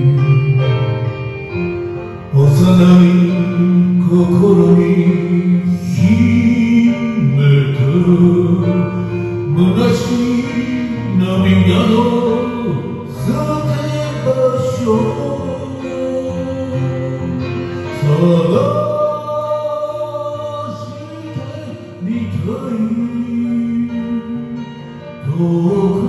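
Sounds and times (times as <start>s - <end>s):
karaoke backing music: 0.0s - 26.0s.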